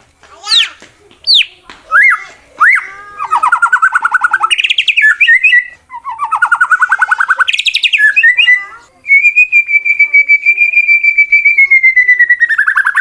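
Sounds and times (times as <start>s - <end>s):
bird singing whistles and trills: 1.3s - 13.0s.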